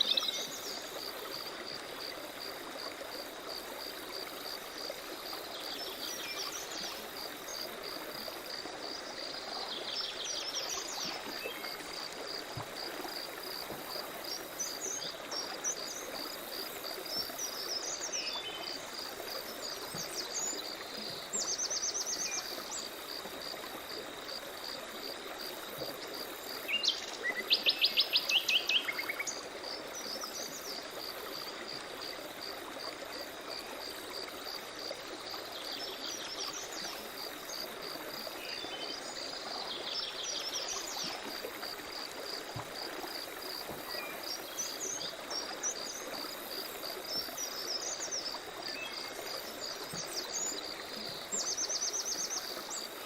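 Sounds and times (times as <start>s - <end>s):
insect chirping: 0.0s - 53.0s.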